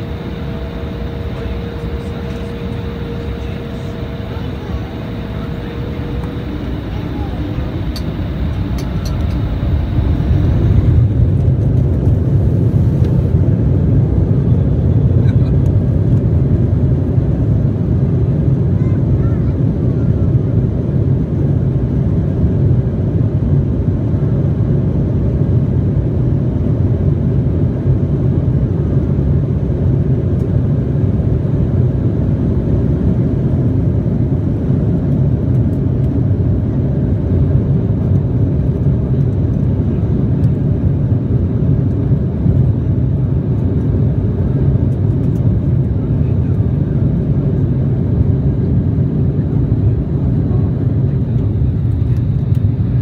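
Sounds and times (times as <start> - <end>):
airliner cabin engine rumble: 0.0 - 53.0.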